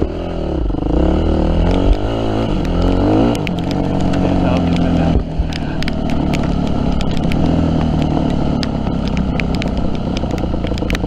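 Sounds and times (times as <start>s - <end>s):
dirt bike engine running: 0.0s - 11.0s
sharp clicks and knocks: 1.5s - 11.0s.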